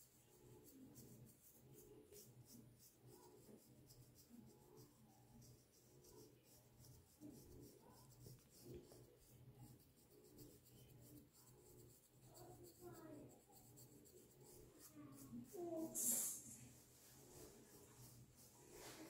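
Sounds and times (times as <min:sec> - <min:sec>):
comb scratching through hair: 0:00.0 - 0:19.0.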